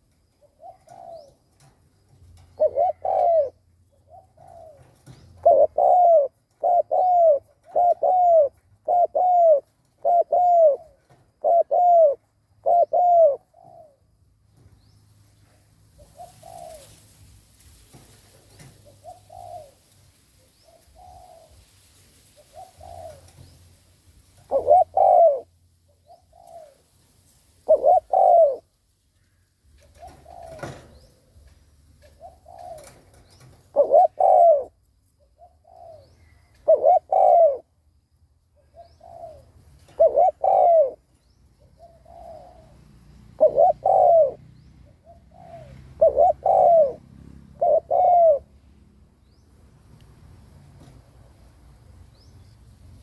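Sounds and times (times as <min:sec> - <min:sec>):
dove cooing: 0:00.0 - 0:14.2, 0:15.9 - 0:17.1, 0:17.9 - 0:21.6, 0:22.4 - 0:23.6, 0:24.4 - 0:26.8, 0:27.6 - 0:37.9, 0:38.5 - 0:48.6.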